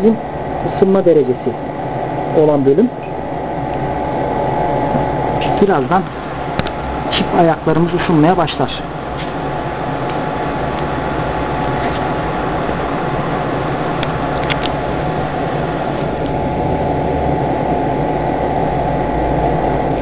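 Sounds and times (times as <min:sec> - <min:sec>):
hot-air blower rushing with whine: 0:00.0 - 0:20.0.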